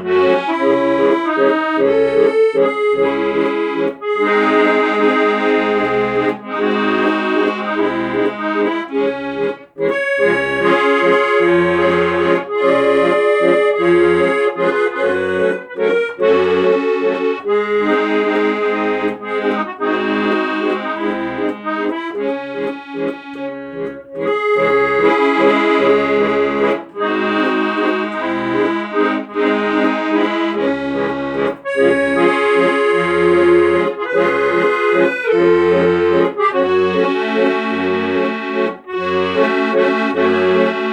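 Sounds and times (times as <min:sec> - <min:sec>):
accordion bass notes: 0:00.0 - 0:40.9
accordion melody: 0:00.0 - 0:40.9.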